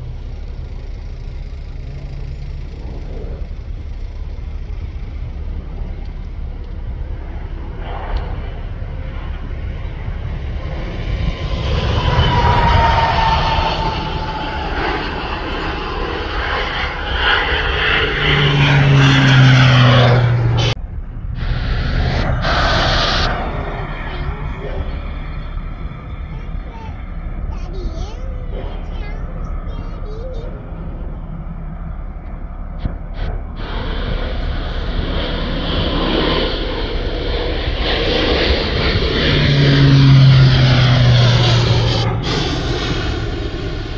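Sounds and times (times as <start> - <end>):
propeller plane engine droning: 0.0 - 43.9
steady low hum: 0.0 - 43.9
high whine falling in pitch: 2.5 - 43.9.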